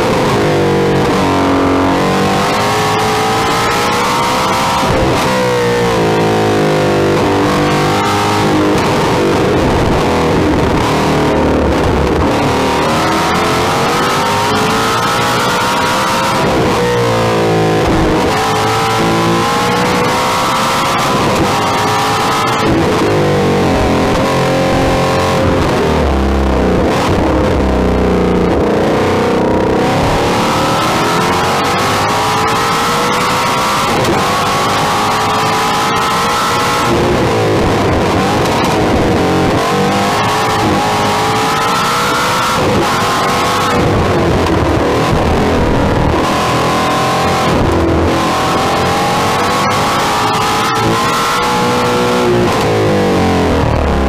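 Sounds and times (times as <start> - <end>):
car engine revving and shifting: 0.0 - 54.0
wind and road noise: 0.0 - 54.0.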